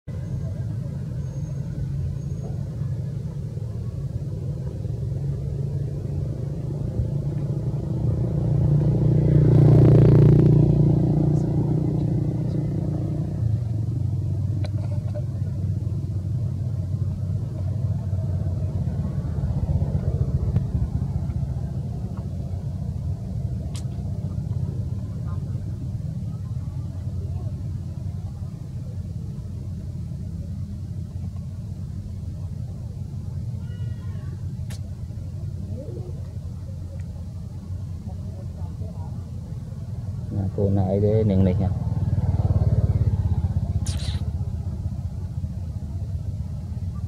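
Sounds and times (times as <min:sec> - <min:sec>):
passing motor traffic rumble: 0:00.0 - 0:47.0.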